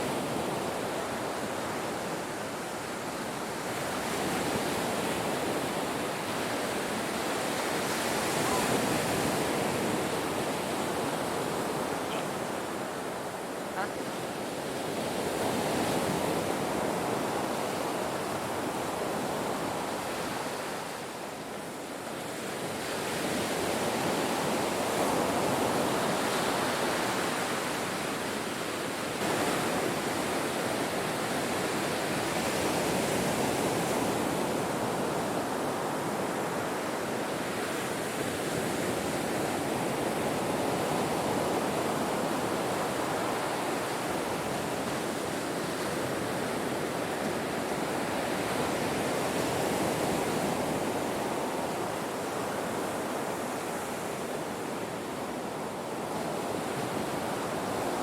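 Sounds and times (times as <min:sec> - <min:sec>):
ocean waves crashing on shore: 0:00.0 - 0:58.0.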